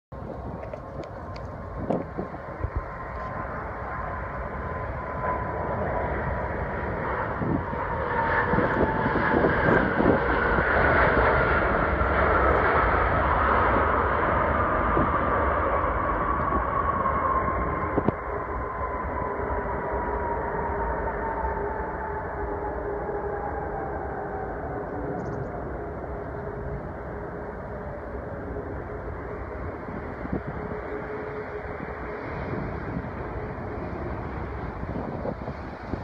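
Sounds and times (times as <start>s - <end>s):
jet airliner passing with whine: 0.1s - 36.0s.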